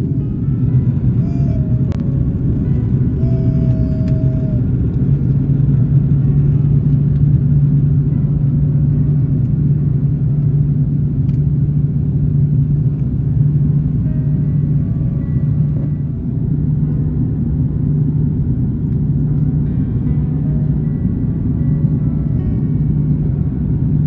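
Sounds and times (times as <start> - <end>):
airliner cabin engine drone: 0.0 - 24.0.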